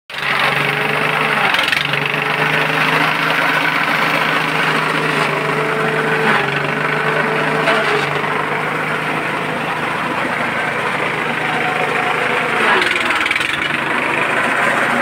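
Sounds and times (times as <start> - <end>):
forage chopper engine hum: 0.1 - 15.0.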